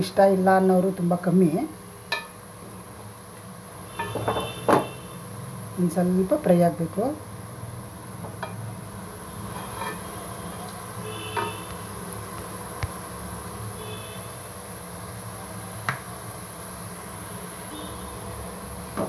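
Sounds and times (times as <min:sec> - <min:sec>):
potatoes sizzling in oil: 0:00.0 - 0:19.0.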